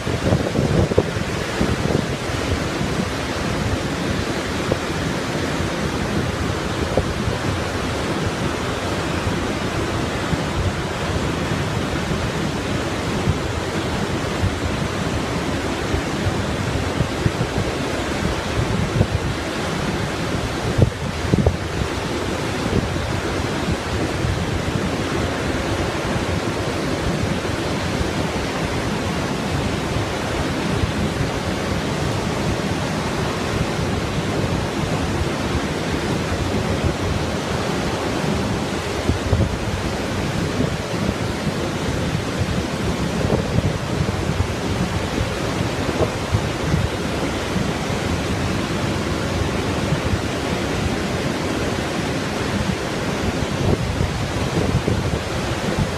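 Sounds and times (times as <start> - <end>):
waterfall roaring: 0.0 - 55.9
wind buffeting microphone: 0.0 - 55.9.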